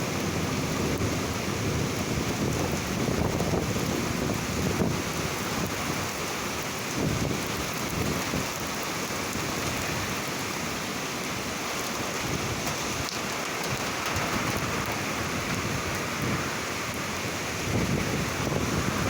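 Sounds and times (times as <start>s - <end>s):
rain pouring: 0.0s - 19.0s.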